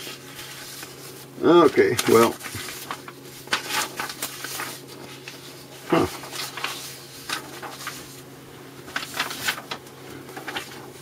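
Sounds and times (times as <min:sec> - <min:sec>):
papers and books rustling: 0:00.0 - 0:11.0
steady low hum: 0:00.0 - 0:11.0.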